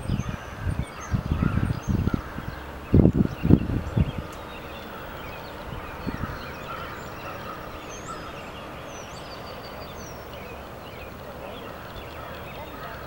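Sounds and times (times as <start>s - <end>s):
distant fowl calling: 0.0s - 13.0s
small birds chirping: 0.0s - 13.0s.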